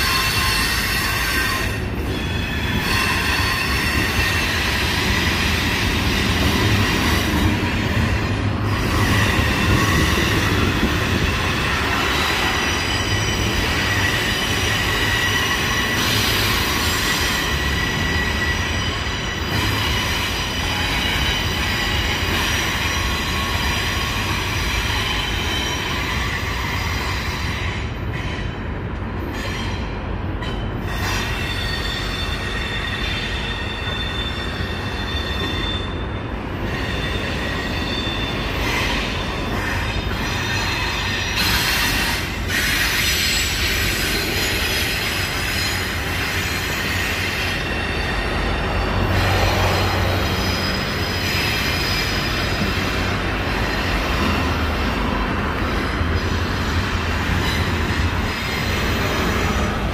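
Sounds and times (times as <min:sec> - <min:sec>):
low rumble of train cars: 0:00.0 - 0:59.9
train wheel flanges squealing: 0:00.0 - 0:59.9.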